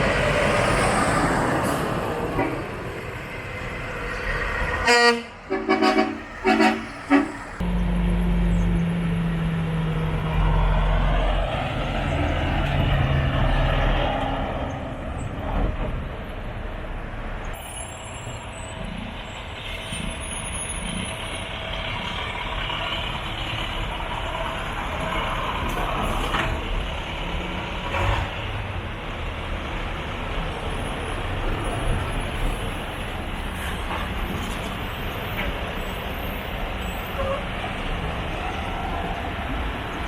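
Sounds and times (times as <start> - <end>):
heavy truck diesel engines: 0.0 - 40.0.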